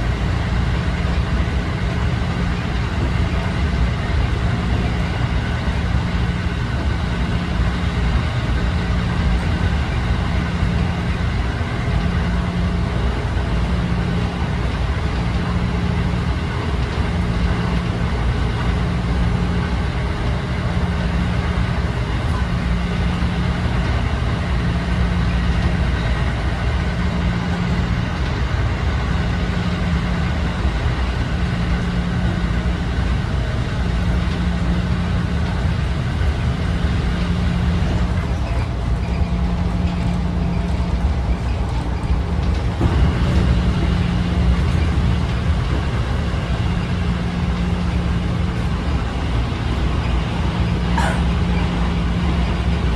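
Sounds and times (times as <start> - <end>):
pulsing low hum: 0.0 - 52.9
train wheels rumbling on rails: 0.0 - 52.9.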